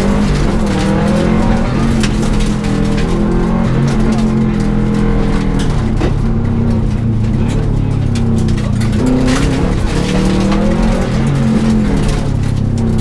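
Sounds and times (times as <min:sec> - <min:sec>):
car engine accelerating: 0:00.0 - 0:13.0
car knocks and rattles: 0:00.0 - 0:13.0
tyre and road noise: 0:00.0 - 0:13.0.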